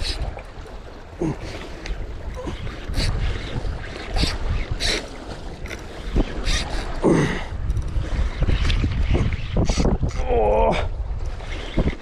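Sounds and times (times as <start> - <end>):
sea washing against rocks: 0.0 - 12.0
wind buffeting the microphone: 0.0 - 12.0.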